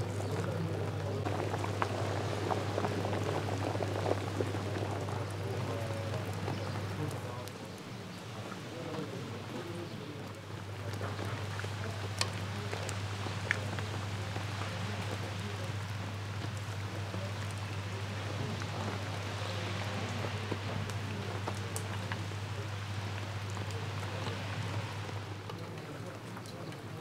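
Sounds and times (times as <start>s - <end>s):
stew bubbling in a pot: 0.0s - 27.0s.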